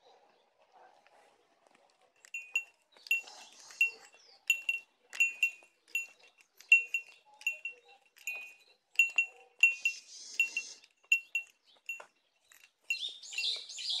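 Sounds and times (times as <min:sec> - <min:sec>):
small metal bell jingling: 0:02.2 - 0:14.0.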